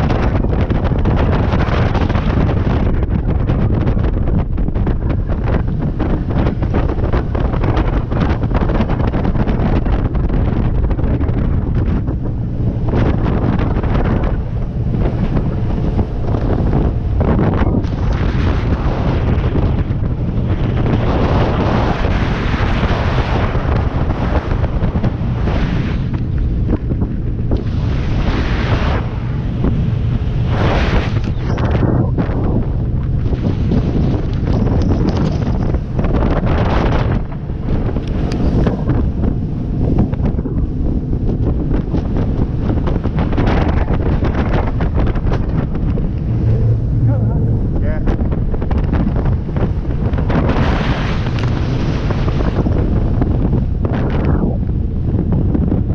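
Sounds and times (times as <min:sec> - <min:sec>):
boat engine low rumble: 0:00.0 - 0:55.9
hull running through water: 0:00.0 - 0:55.9
wind buffeting microphone: 0:00.0 - 0:55.9.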